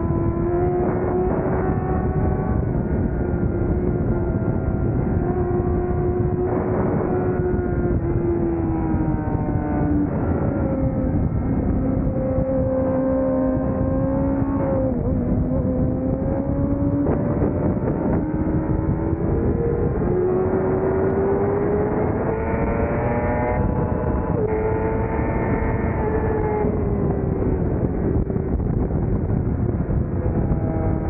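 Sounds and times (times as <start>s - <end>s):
motorcycle engine running hard: 0.0s - 31.0s
wind noise: 0.0s - 31.0s.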